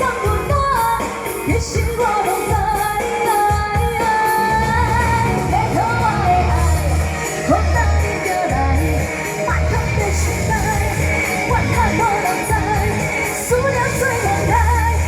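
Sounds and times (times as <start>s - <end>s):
drum and bass beat: 0.0s - 15.0s
woman singing: 0.0s - 15.0s.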